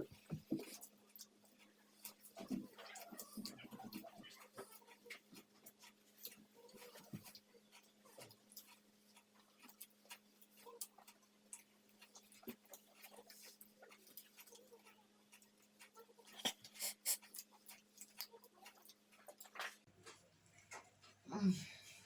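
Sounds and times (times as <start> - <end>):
people chewing and eating: 0.0 - 22.0.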